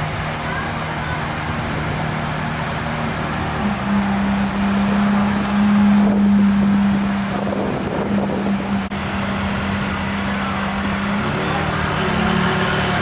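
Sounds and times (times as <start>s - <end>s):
car engine running: 0.0s - 13.0s
street noise: 0.0s - 13.0s.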